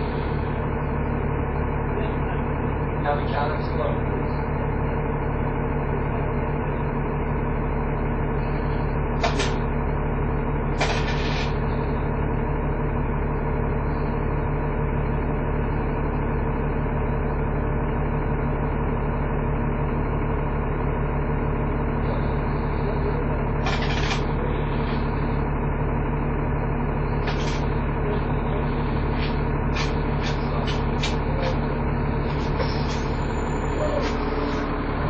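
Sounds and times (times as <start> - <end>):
bus engine idling: 0.0 - 35.0.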